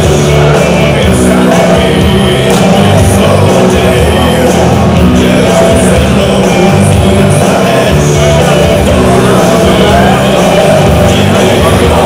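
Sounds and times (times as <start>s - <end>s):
loud music with singing: 0.0s - 12.0s.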